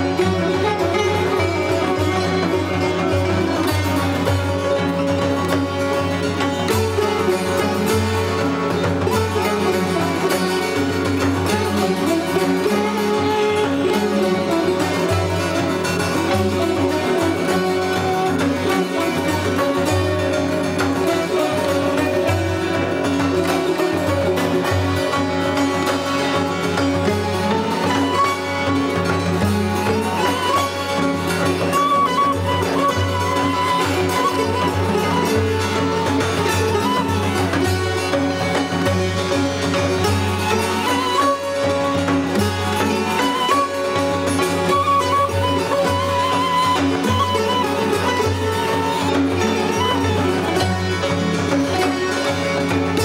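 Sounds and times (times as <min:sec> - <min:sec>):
traditional string music: 0:00.0 - 0:53.0.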